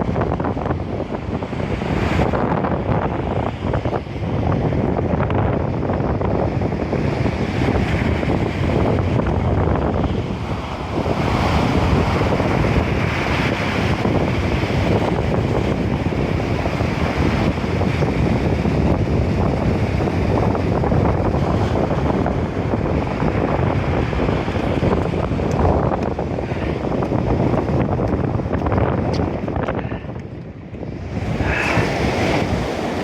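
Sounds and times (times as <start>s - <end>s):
storm waves breaking in surf: 0.0s - 33.0s
strong gusty wind buffeting microphone: 0.0s - 33.0s.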